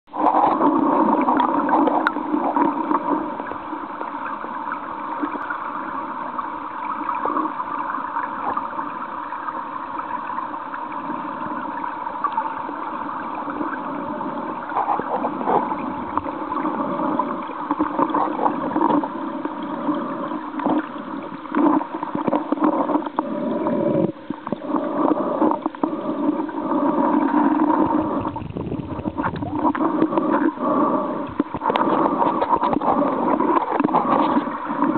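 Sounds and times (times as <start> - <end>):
stream heard underwater: 0.1 - 34.9.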